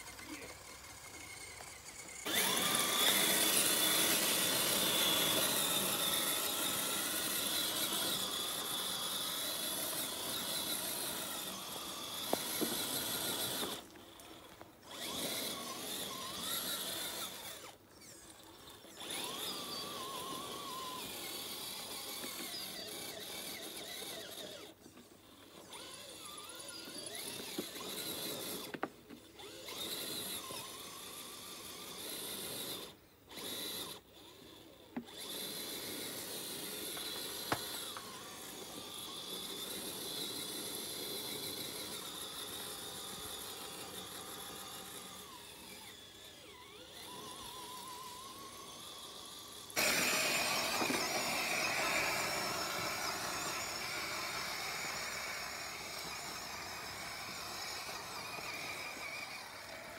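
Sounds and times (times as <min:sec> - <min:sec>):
rc car motor whining: 0:00.0 - 0:59.9.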